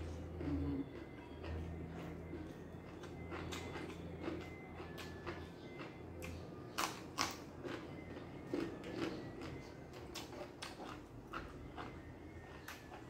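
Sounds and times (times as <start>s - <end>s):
chewing and crunching vegetables: 0.0s - 13.0s
low steady hum: 0.0s - 13.0s.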